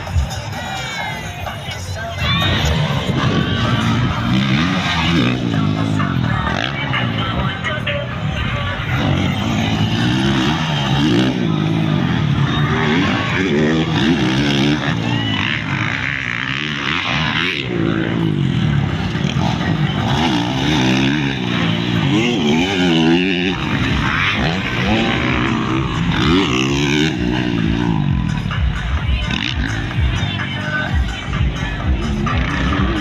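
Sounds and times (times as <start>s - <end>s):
motorbike engines revving: 0.0s - 33.0s.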